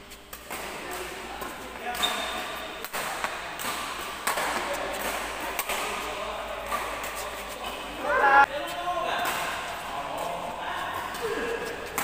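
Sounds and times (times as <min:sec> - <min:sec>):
racquets hitting shuttlecock: 0:00.3 - 0:07.8, 0:09.1 - 0:10.3, 0:10.9 - 0:12.0.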